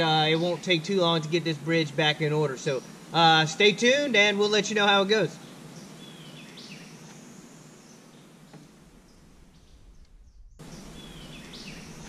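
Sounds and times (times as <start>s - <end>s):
birds calling: 0.0s - 12.0s
steady woodland hiss: 0.0s - 12.0s.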